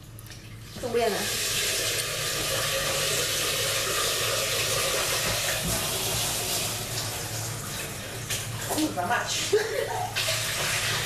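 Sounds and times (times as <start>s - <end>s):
pump humming: 0.0s - 11.0s.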